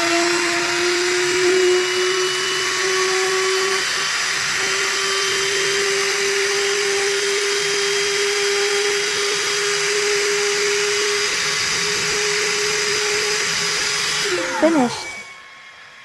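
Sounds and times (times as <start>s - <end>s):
router spinning with whine: 0.0s - 16.0s.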